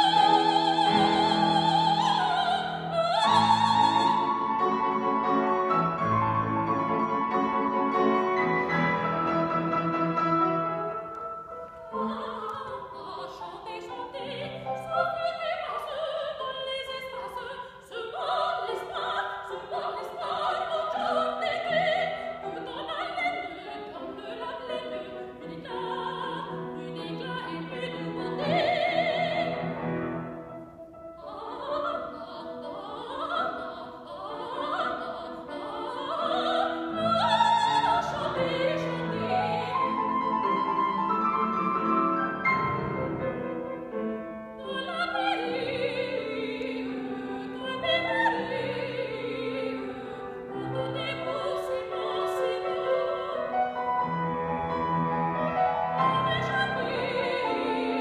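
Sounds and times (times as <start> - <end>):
soprano singing operatically: 0.0 - 5.7, 11.1 - 30.0, 31.0 - 41.6, 44.4 - 53.9, 55.8 - 58.0
grand piano: 0.0 - 58.0.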